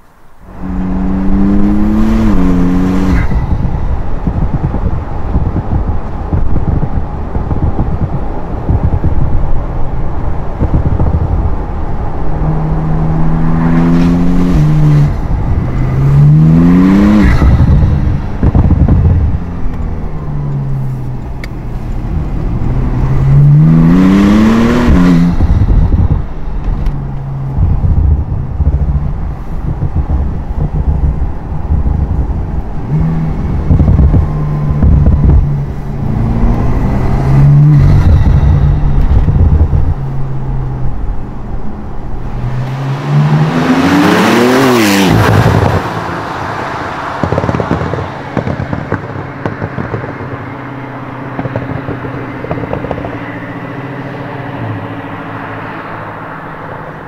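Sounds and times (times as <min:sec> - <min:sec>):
car engine revving: 0:00.2 - 0:57.0.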